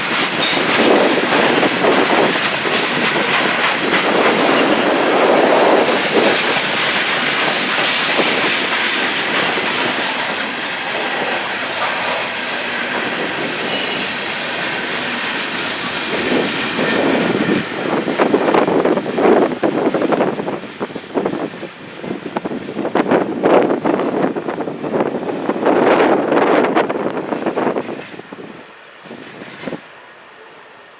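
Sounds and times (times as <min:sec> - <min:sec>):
wheels clicking over rail joints: 0:00.0 - 0:30.0
train wheels rolling on rails: 0:00.0 - 0:30.9.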